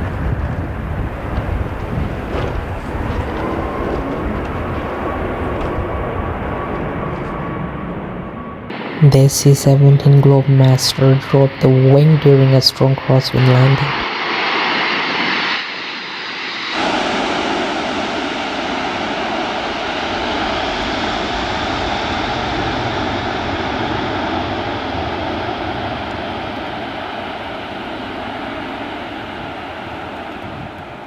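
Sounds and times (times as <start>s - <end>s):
jet engines roaring: 0.4s - 9.1s, 9.8s - 30.4s.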